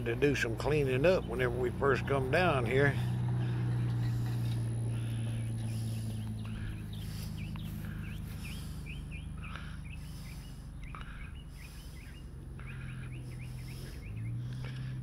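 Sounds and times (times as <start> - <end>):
bird chirping rapidly: 0.0 - 14.6
engine humming: 0.0 - 15.0.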